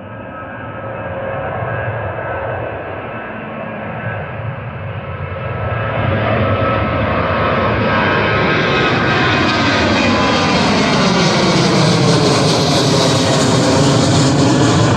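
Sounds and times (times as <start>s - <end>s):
loud jet engine roar: 0.0s - 14.9s.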